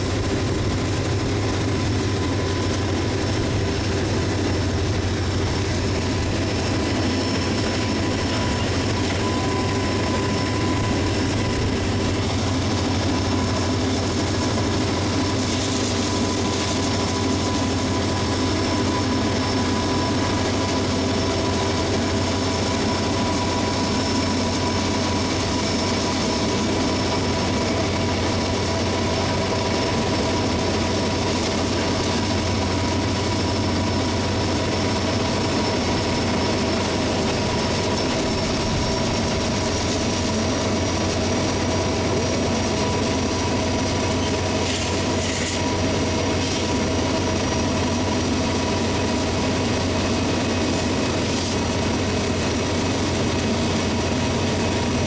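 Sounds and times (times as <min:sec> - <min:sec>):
diesel locomotive drone: 0:00.0 - 0:55.0.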